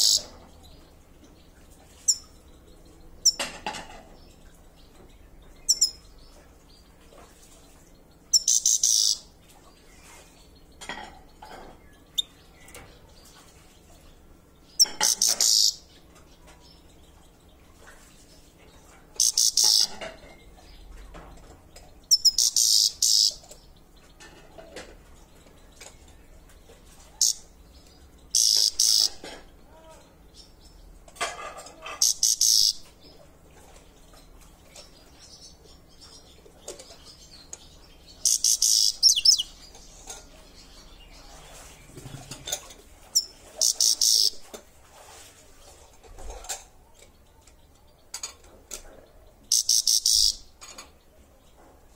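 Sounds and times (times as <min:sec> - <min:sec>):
finch chirping: 0:00.0 - 0:51.8.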